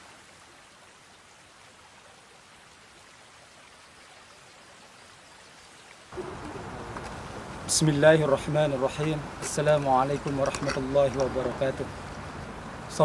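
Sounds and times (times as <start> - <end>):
river water flowing around rocks: 0.0 - 13.0.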